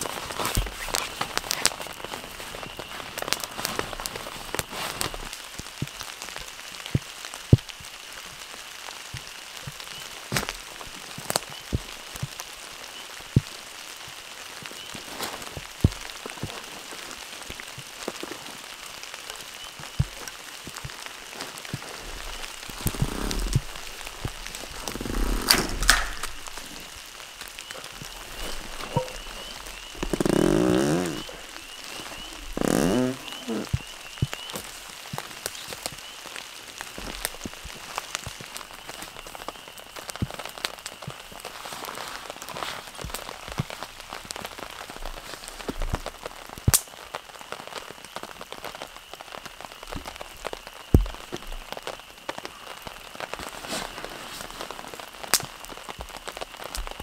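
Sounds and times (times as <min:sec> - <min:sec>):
heavy rain in forest: 0:00.0 - 0:57.0.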